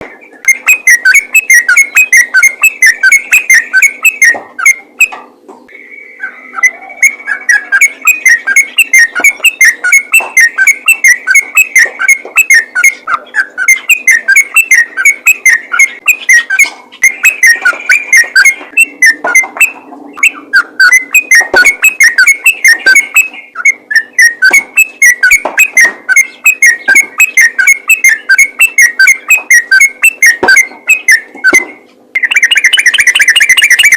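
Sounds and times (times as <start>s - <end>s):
bird singing chattering notes: 0.0s - 33.9s.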